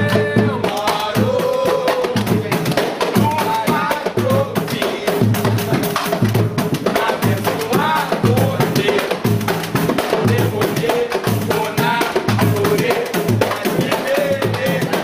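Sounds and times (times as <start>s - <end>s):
deep drum beat: 0.0s - 15.0s
fast clicking hand percussion: 0.0s - 15.0s
voices singing: 0.0s - 15.0s.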